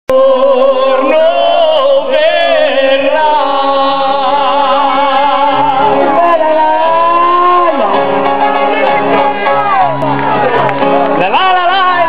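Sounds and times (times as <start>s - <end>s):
live band music: 0.8s - 12.0s.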